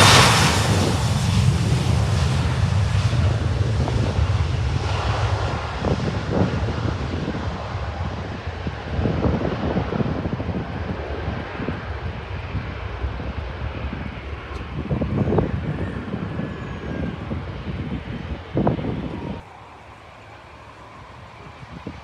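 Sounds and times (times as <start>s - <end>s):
jet engine rumble: 0.0s - 22.0s.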